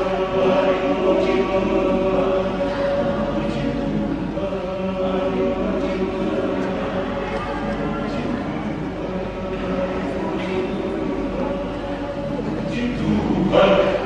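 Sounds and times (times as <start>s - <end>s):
men's choir singing: 0.0s - 14.0s.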